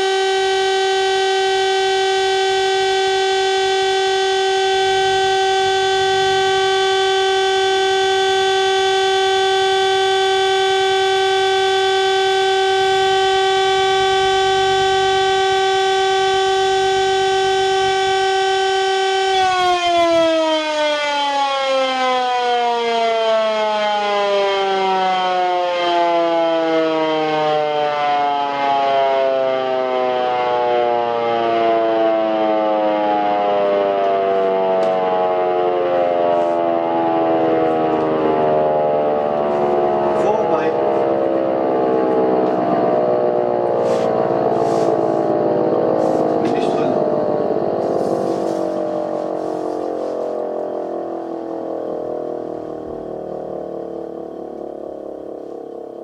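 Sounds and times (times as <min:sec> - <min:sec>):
electric siren steady tone: 0:00.0 - 0:56.0.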